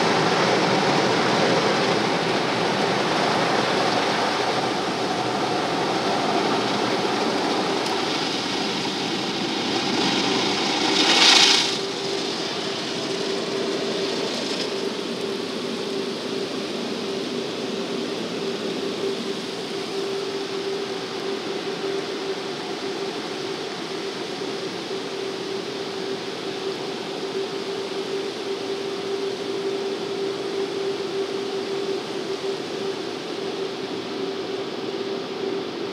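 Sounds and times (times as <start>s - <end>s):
steady machine hum: 0.0s - 35.9s.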